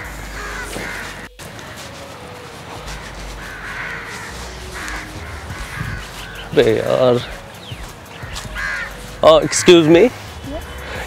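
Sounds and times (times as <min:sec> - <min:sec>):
crows cawing: 0:00.0 - 0:01.9, 0:02.9 - 0:11.0.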